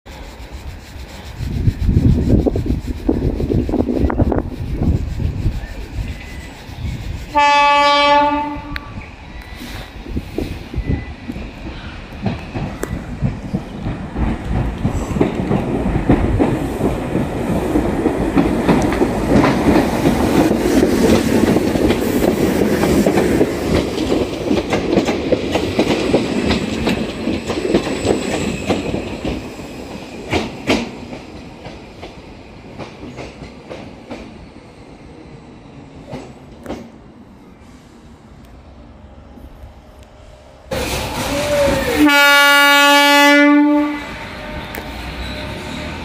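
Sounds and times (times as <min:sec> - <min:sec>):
train wheels on rails: 0:00.1 - 0:46.0.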